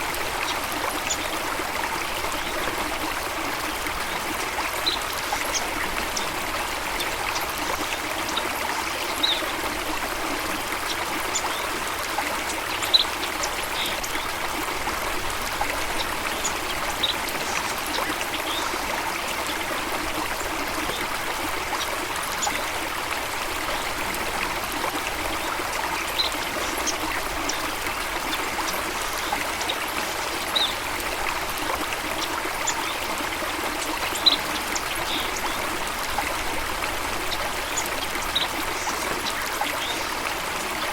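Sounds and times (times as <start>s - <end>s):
running water flowing: 0.0s - 40.9s.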